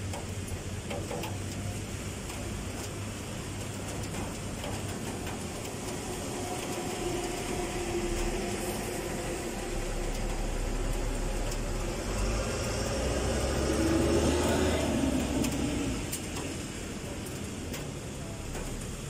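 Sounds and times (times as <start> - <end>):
steady rain: 0.0 - 19.0
vehicle engine hum: 0.0 - 19.0.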